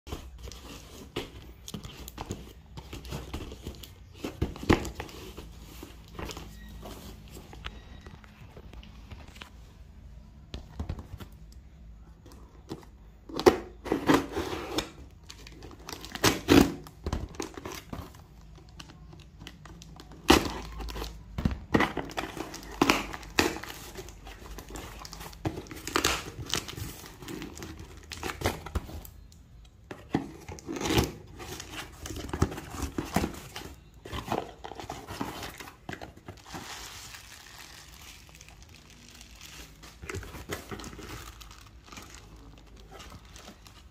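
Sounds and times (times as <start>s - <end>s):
cardboard crinkling and scraping: 0.1s - 11.4s, 12.0s - 43.9s.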